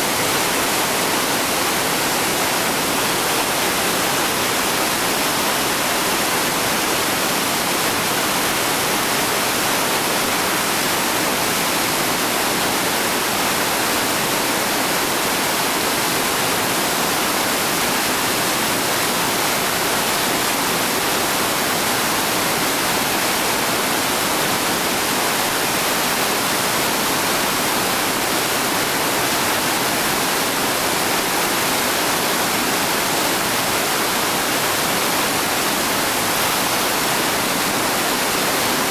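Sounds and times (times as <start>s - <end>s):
whitewater rushing over boulders: 0.0s - 38.9s.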